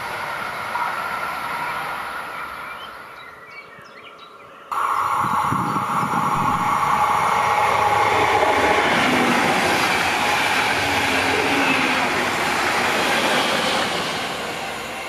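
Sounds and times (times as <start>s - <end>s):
train passing at high speed: 0.0s - 3.5s, 4.7s - 15.0s.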